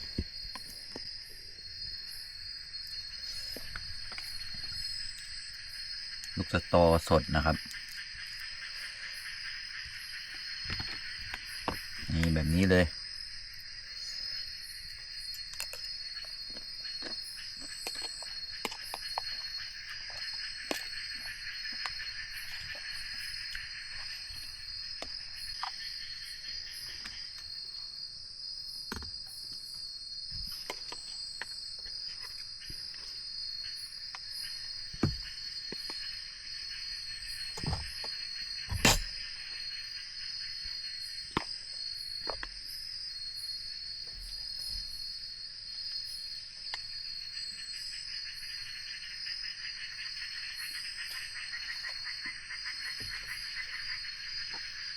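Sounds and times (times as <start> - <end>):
insect chirps: 0.0 - 54.9
insects buzzing: 0.0 - 54.9.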